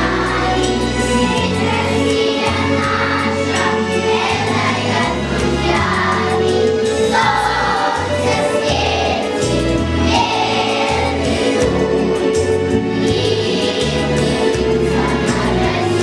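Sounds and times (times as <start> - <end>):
children's choir singing: 0.0 - 16.0
instrumental accompaniment: 0.0 - 16.0.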